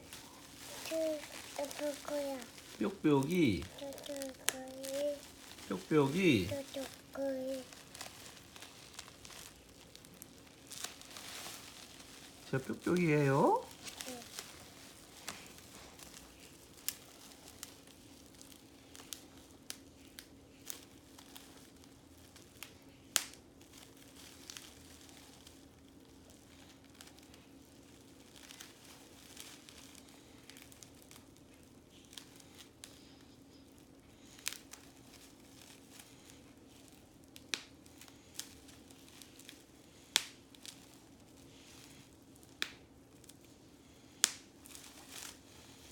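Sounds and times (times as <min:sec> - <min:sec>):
bubble wrap popping: 0:00.0 - 0:45.9
plastic crinkling: 0:00.0 - 0:45.9.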